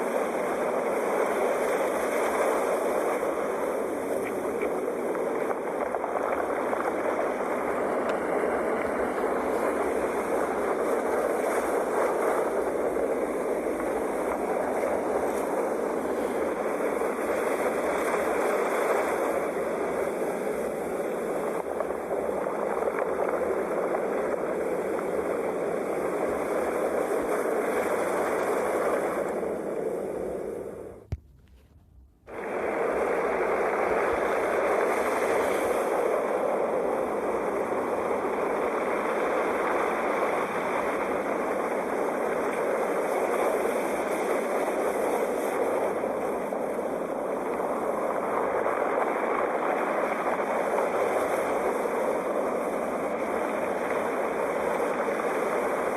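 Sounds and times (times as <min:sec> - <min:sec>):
sea waves breaking: 0:00.0 - 0:55.9.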